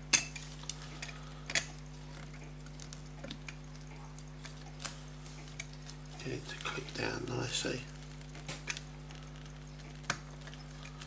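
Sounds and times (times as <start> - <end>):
low electrical hum: 0.0 - 11.0
metallic clicks of watch movement: 0.1 - 11.0.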